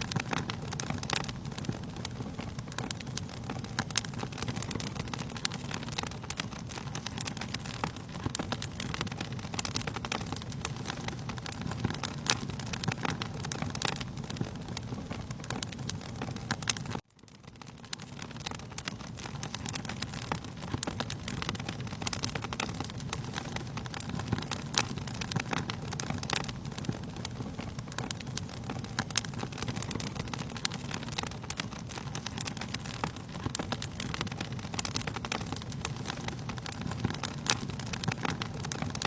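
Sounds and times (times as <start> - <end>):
low rumble of burning: 0.0 - 39.0
sharp pops and snaps: 0.0 - 39.0
wood fire crackling: 0.0 - 39.0.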